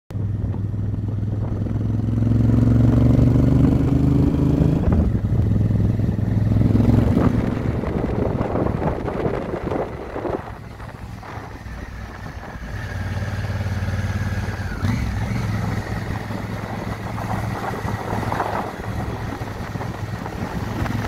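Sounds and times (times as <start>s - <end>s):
motorcycle engine running: 0.1s - 21.0s
rushing wind: 0.1s - 21.0s.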